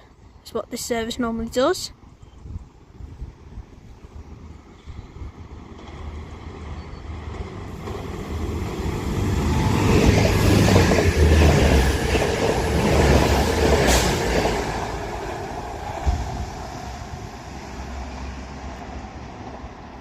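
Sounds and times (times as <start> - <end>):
diesel trains passing: 3.0 - 20.0.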